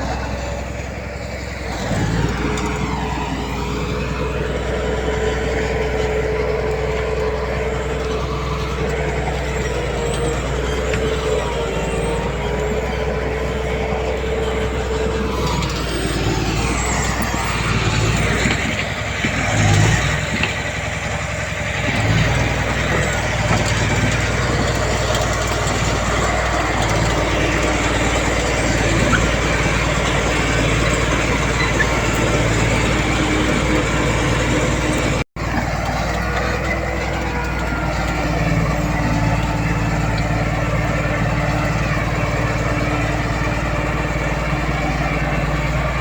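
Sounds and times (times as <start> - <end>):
diesel machinery engine rumble: 0.0 - 46.0
machinery clatter: 0.0 - 46.0.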